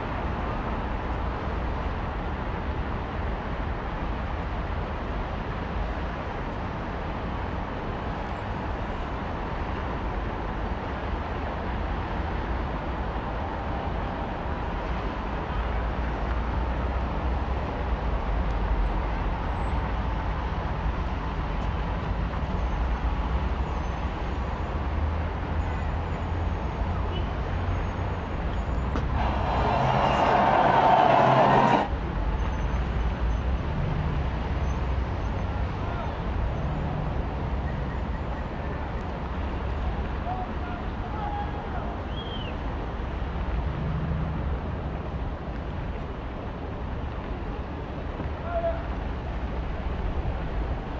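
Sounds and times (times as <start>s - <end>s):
city ambience with low rumble: 0.0s - 50.9s.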